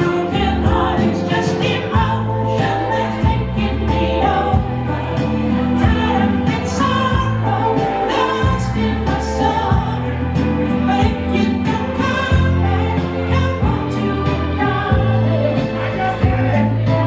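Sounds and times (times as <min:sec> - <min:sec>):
bass guitar: 0:00.0 - 0:17.0
drums: 0:00.0 - 0:17.0
harmony vocals: 0:00.0 - 0:17.0
live soft rock band: 0:00.0 - 0:17.0
woman singing lead: 0:00.0 - 0:17.0.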